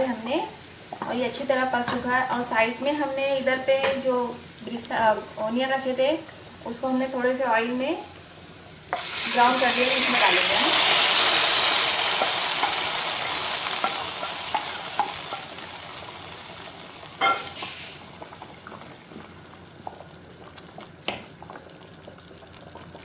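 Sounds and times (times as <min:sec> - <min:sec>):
oil sizzling in a pot: 0:00.0 - 0:23.0.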